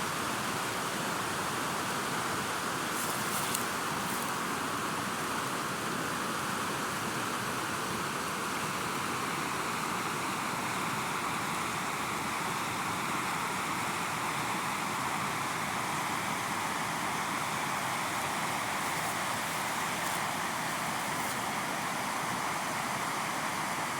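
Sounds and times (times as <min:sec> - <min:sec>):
river water flowing: 0:00.0 - 0:23.9.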